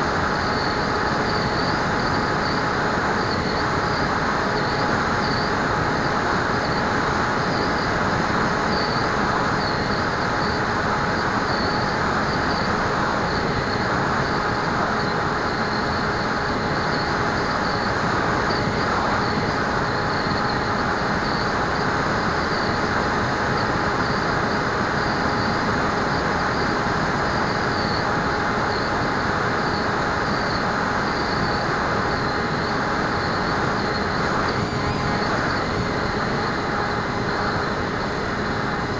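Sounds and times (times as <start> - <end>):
model plane motor whine: 0.0 - 38.9.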